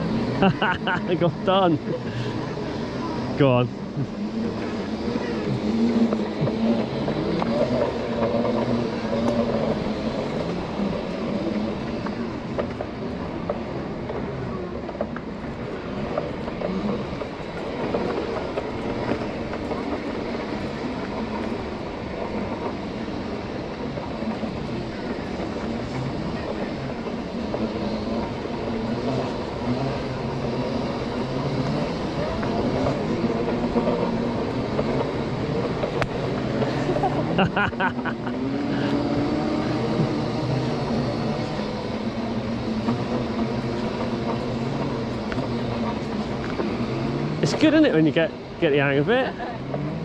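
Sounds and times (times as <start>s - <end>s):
tyres rolling on dirt path: 0.0s - 50.0s.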